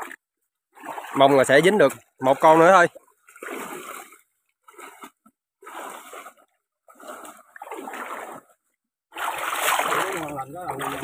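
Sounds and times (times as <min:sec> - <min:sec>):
floodwater sloshing and splashing: 0:00.0 - 0:11.0.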